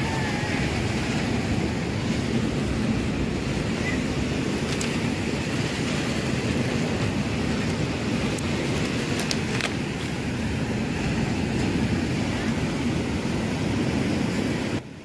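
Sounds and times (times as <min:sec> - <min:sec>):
surf: 0:00.0 - 0:14.8
wind: 0:00.0 - 0:15.0.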